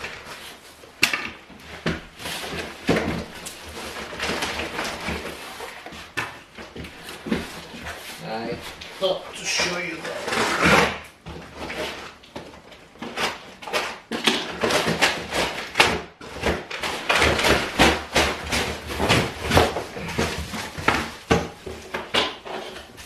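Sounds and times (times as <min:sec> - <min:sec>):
furniture parts knocking and scraping: 0:00.0 - 0:23.0
packaging rustling: 0:00.0 - 0:23.0.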